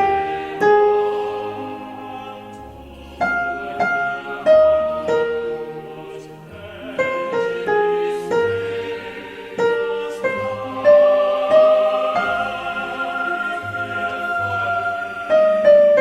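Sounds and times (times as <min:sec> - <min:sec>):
choir singing sustained chords: 0:00.0 - 0:16.0
piano melody: 0:00.0 - 0:16.0.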